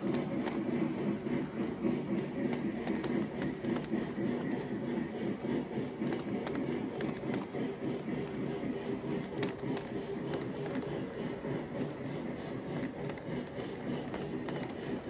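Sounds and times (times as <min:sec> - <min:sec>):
metal wheels rumbling on rails: 0:00.0 - 0:15.0
wheels clicking over track joints: 0:00.0 - 0:15.0.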